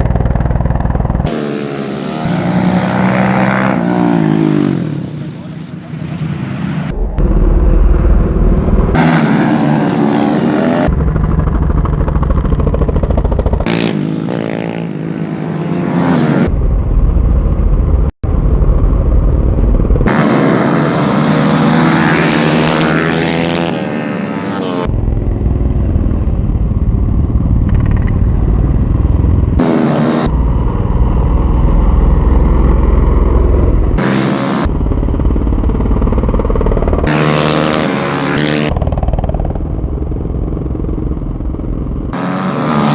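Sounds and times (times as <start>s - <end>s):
racing motorcycles revving: 0.0s - 42.9s.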